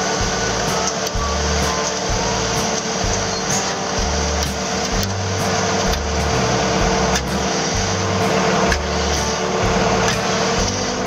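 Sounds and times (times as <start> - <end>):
diesel engines running: 0.0 - 11.0.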